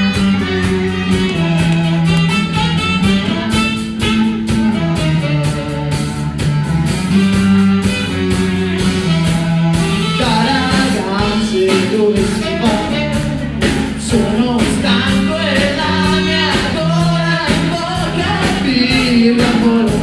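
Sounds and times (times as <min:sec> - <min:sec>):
pop-rock band playing: 0:00.0 - 0:20.0.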